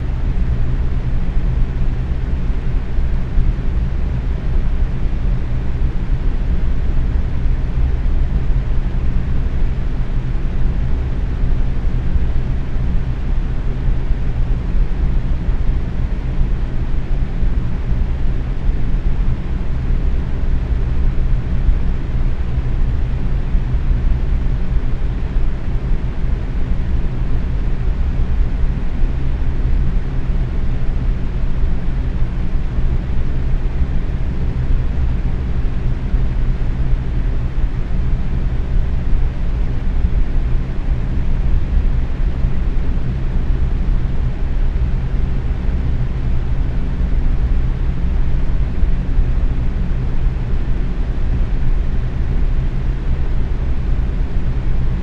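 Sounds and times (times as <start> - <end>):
box fan running: 0.0 - 55.0.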